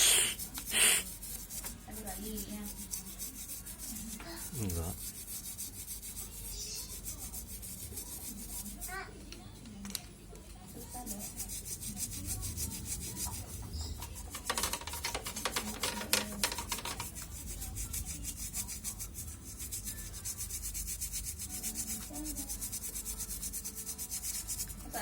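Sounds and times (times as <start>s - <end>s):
rapid scrubbing strokes: 0.0s - 9.1s, 10.7s - 25.0s.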